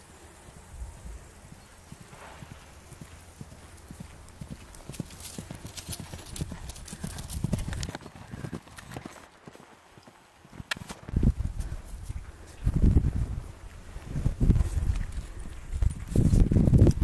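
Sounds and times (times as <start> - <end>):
pony hoofbeats on grass: 1.4 - 17.0.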